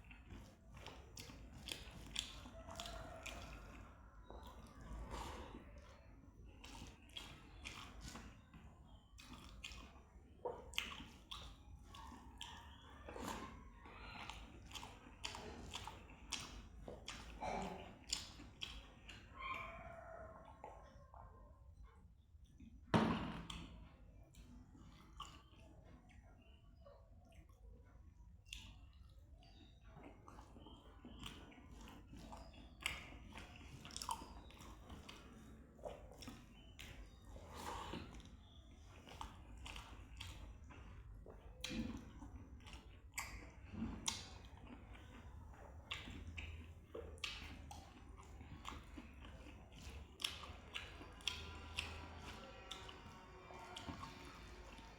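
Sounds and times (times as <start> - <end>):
wet chewing and mouth smacking: 0.0 - 54.9.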